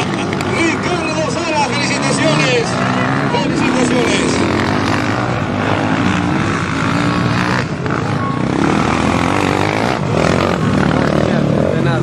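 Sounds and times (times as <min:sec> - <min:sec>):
dirt bike engines running: 0:00.0 - 0:12.0.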